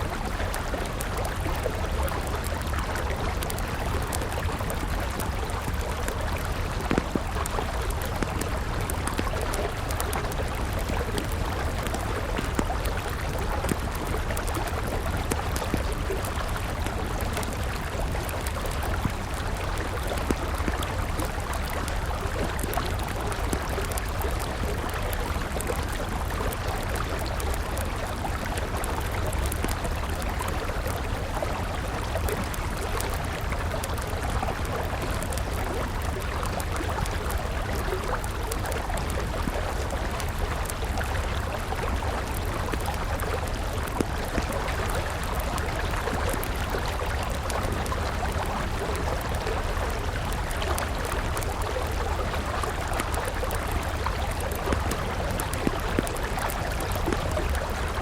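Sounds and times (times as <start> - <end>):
campfire crackling: 0.0 - 58.0
river water flowing: 0.0 - 58.0.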